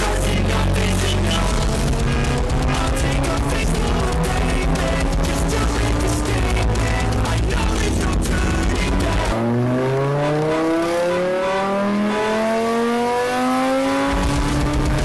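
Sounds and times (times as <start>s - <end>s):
music: 0.0s - 11.9s, 12.5s - 15.0s
car engine revving up: 0.0s - 15.0s.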